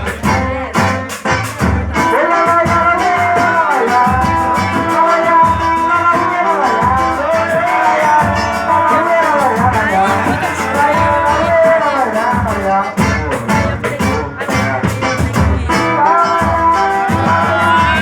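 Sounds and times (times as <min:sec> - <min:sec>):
music with sliding lead melody: 0:00.0 - 0:18.0.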